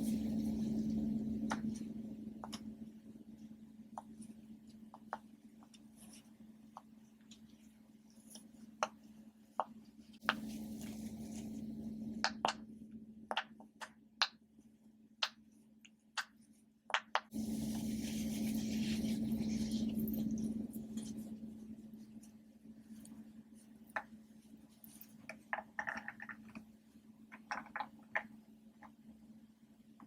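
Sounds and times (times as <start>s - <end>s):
steady low hum: 0.0s - 15.8s, 16.4s - 27.3s.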